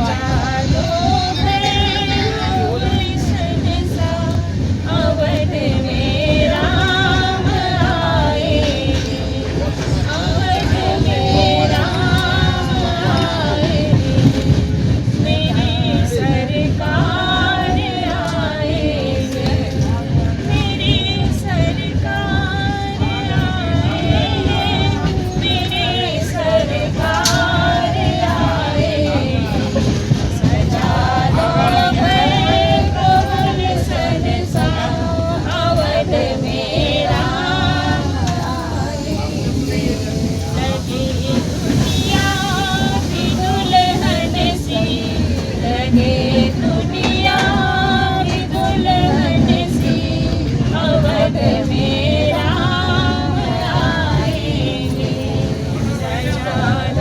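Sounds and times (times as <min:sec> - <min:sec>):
moving train rumble: 0:00.0 - 0:57.0
women singing devotional song: 0:00.0 - 0:57.0.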